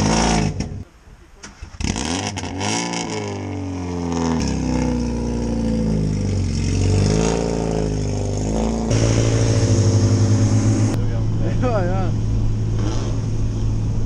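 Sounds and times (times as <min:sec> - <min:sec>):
car engine revving: 0:01.8 - 0:13.9.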